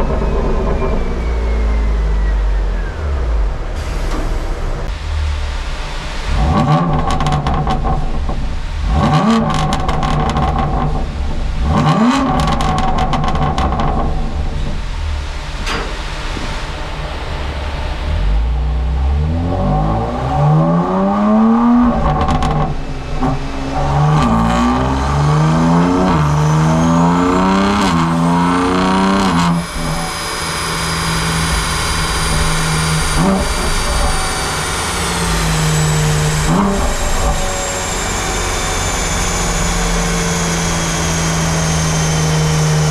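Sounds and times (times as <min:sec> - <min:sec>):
car engine revving with crackles: 0:00.0 - 0:42.9
high whine: 0:00.0 - 0:42.9.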